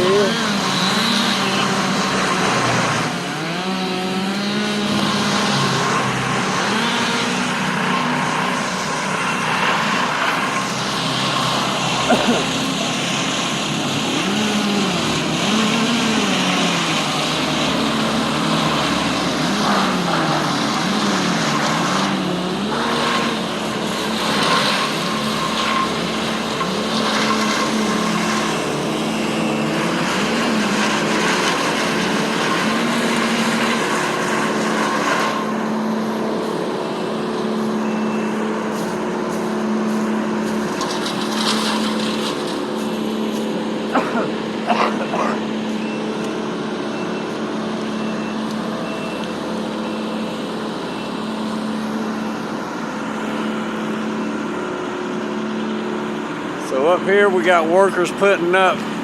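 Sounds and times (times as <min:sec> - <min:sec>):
machinery engine running: 0:00.0 - 0:59.0.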